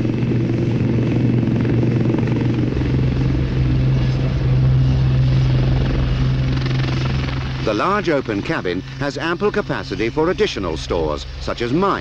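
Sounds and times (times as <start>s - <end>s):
helicopter rotor and turbine running: 0.0s - 12.0s.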